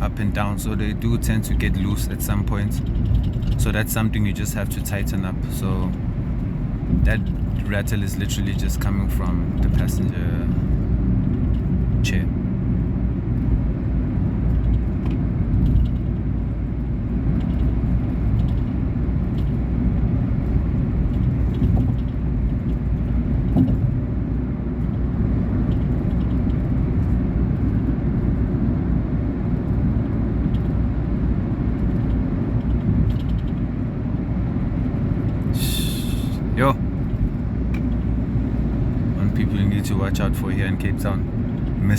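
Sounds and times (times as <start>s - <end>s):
car interior rumble: 0.0s - 41.9s
faint seat rattles: 0.0s - 41.9s.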